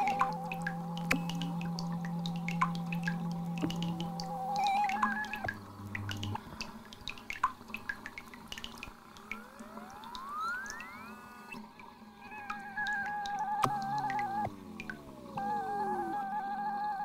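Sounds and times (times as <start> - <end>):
drip-like clicks: 0.0 - 11.9, 12.5 - 15.1.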